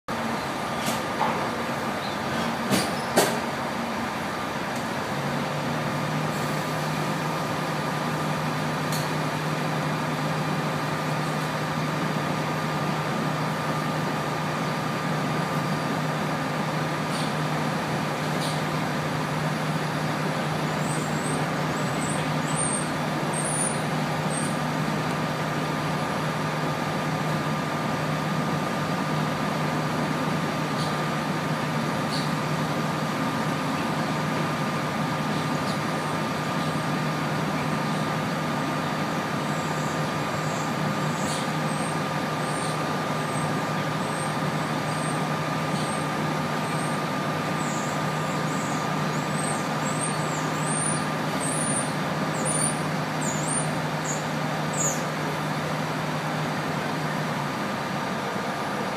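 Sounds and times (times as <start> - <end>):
bus engine idling: 0.1 - 58.9
distant freight train rolling: 0.1 - 58.9.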